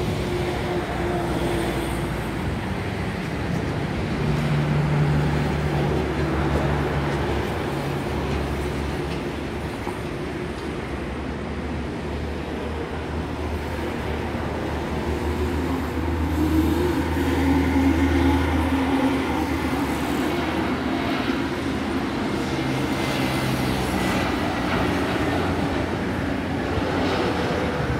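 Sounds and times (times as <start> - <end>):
jet engines rumbling and whining: 0.0 - 27.9.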